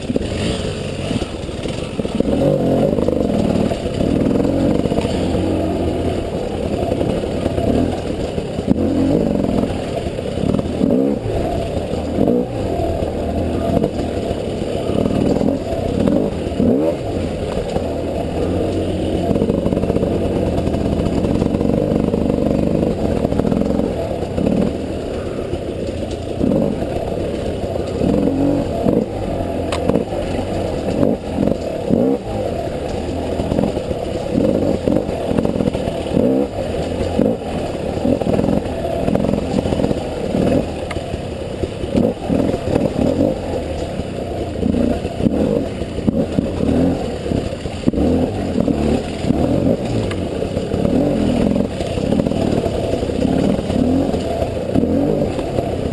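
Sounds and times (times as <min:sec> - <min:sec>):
bike clattering over rough ground: 0:00.0 - 0:55.9
motorcycle engine throttle blips: 0:00.0 - 0:55.9.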